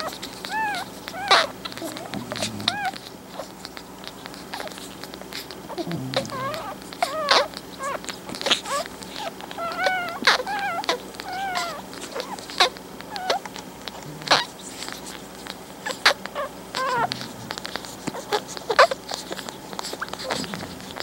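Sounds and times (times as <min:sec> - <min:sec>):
puppies squeaking and whimpering: 0:00.0 - 0:21.0
wet suckling clicks: 0:00.0 - 0:21.0.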